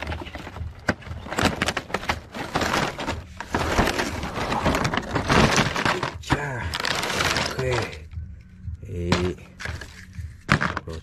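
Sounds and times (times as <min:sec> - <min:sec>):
cardboard and plastic crinkling: 0:00.0 - 0:08.1, 0:09.1 - 0:11.0.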